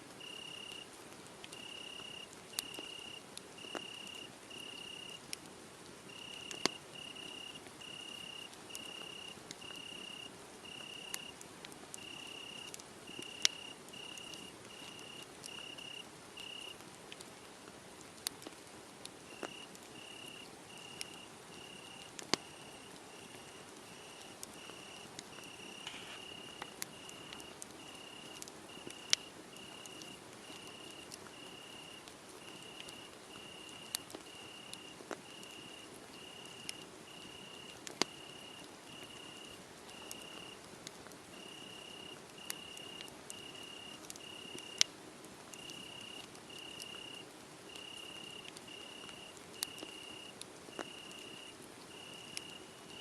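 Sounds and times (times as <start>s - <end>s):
wood fire crackling: 0.1s - 53.0s
cricket chirping: 0.2s - 0.8s, 1.6s - 5.2s, 6.1s - 11.3s, 12.0s - 16.8s, 19.3s - 40.6s, 41.4s - 44.9s, 45.6s - 53.0s.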